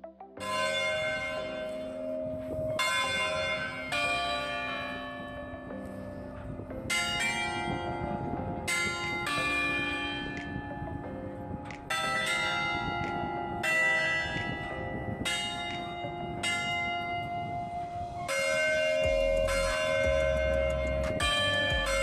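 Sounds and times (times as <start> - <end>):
church bells ringing: 0.4 - 22.0.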